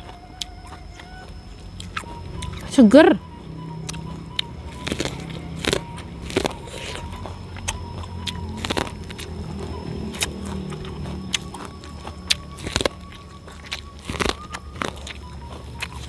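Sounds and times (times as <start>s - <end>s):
corn kernels crunching: 0.0s - 2.8s, 3.8s - 16.0s
low background hum: 0.0s - 16.0s.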